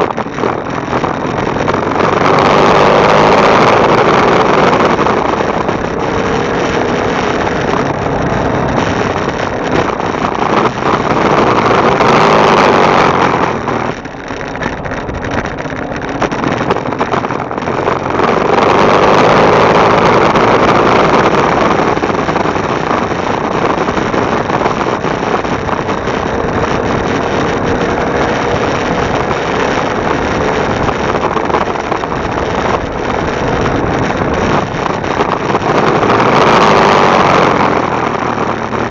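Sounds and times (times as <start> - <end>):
motorcycle engine running: 0.0 - 38.9
rush of wind noise: 0.0 - 38.9.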